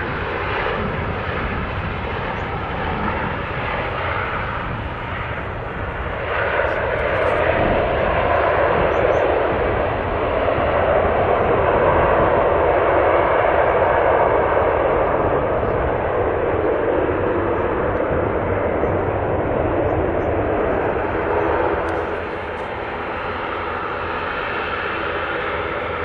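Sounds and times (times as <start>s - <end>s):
turboprop engines running: 0.0s - 26.0s.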